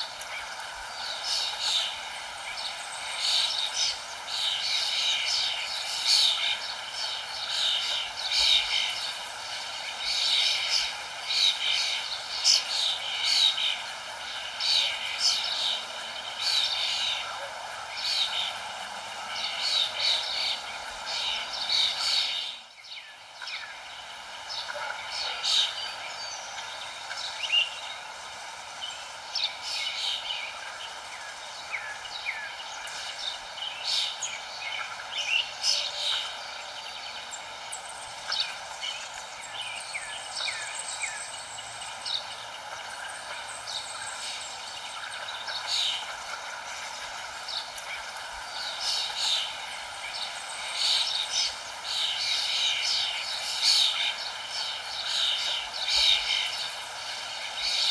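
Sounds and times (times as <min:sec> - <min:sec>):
birds chirping: 0:00.0 - 0:57.9
steady background hiss: 0:00.0 - 0:57.9.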